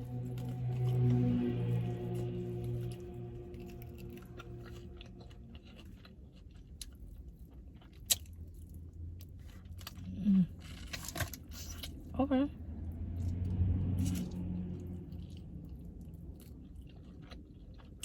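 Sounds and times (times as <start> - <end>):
chewing with crisp crunches: 0.0 - 12.1, 13.2 - 18.0.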